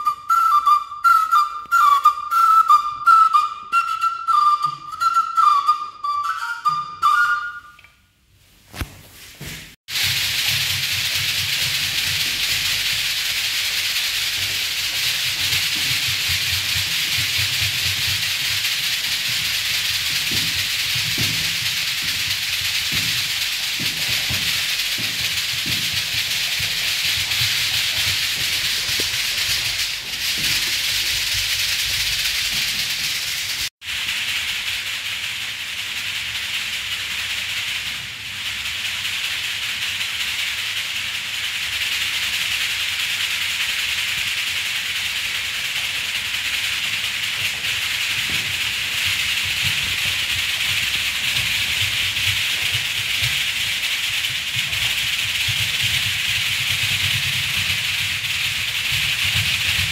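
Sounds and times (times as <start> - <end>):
hand rattle shaking: 0.0 - 7.8, 9.9 - 59.9.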